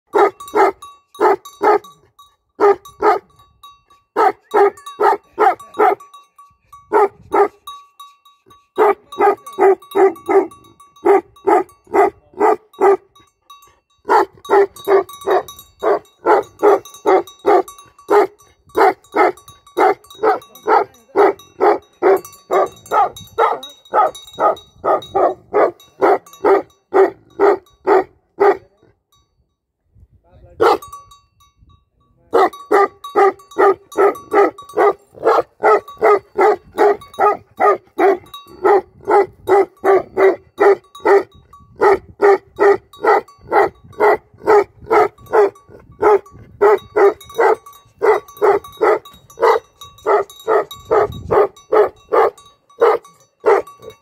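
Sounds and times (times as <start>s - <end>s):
large dog barking: 0.1s - 1.9s, 2.6s - 3.3s, 4.2s - 6.1s, 6.9s - 7.6s, 8.8s - 13.2s, 14.0s - 28.7s, 30.6s - 30.8s, 32.3s - 54.0s.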